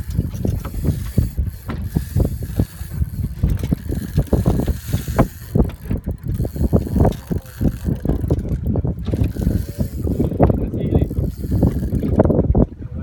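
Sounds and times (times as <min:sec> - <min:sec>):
fishing reel clicking: 0:00.0 - 0:12.4
wind buffeting microphone: 0:00.0 - 0:13.0.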